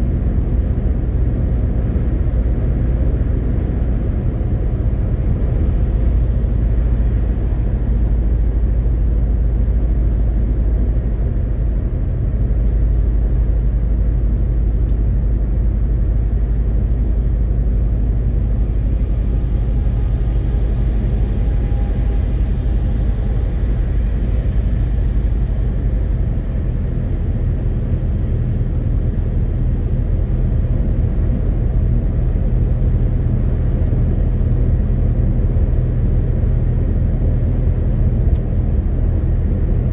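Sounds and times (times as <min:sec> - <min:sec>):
road noise: 0:00.0 - 0:39.9
truck diesel engine droning: 0:00.0 - 0:39.9.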